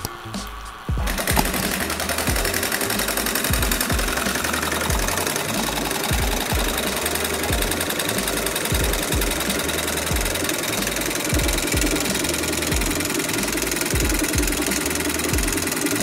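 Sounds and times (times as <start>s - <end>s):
stirling engine clatter: 1.0s - 16.0s.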